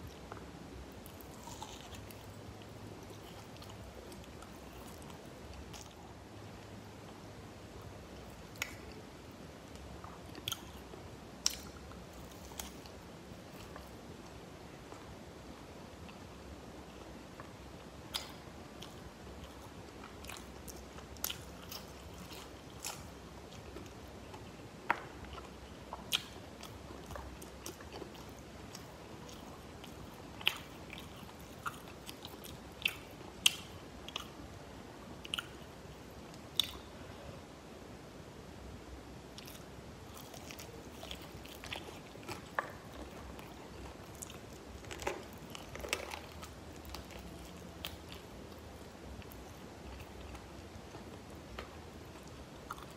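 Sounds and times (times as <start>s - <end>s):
chewing fried chicken: 0.0s - 7.2s, 9.7s - 15.1s, 16.0s - 34.4s, 39.4s - 52.9s.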